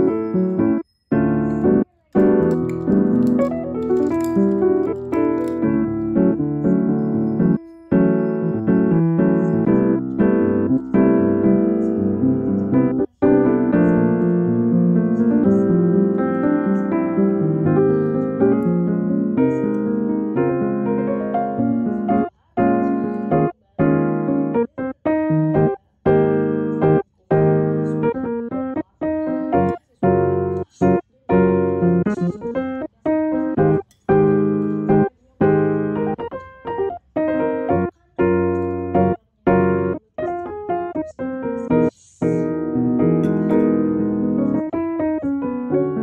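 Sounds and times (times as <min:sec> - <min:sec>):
gentle piano music: 0:00.0 - 0:46.0.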